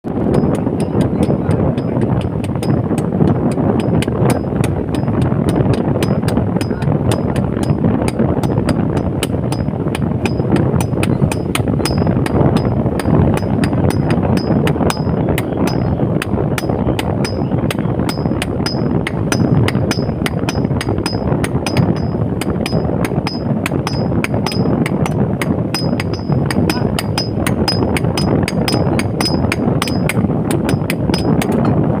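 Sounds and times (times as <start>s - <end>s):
low rushing noise: 0.0s - 32.0s
hammer striking metal on anvil: 0.3s - 16.0s, 16.6s - 31.8s.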